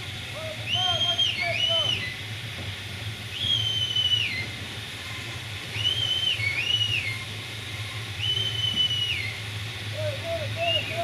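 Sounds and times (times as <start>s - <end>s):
steam hissing: 0.0s - 11.0s
steam whistle toots: 0.4s - 2.3s, 3.3s - 11.0s.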